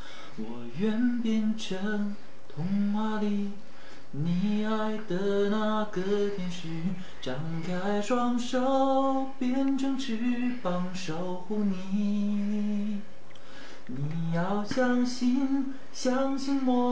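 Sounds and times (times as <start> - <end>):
man singing unaccompanied: 0.3 - 13.2, 13.8 - 16.9.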